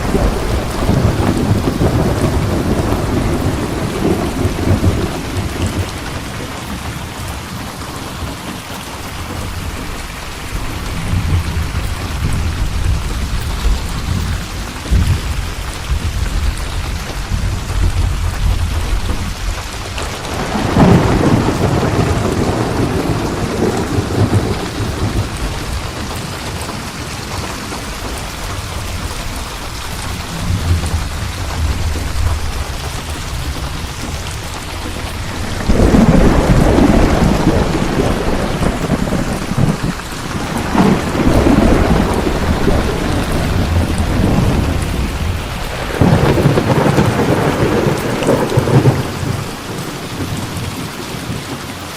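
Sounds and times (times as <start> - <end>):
loud thunderclap: 0.0 - 7.1, 9.3 - 51.6
rolling thunder: 0.0 - 8.5, 9.1 - 51.6
heavy rain: 0.0 - 51.9.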